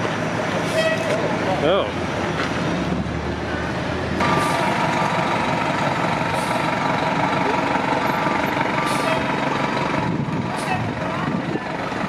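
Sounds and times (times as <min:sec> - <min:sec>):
bus engine whining: 0:00.0 - 0:12.0.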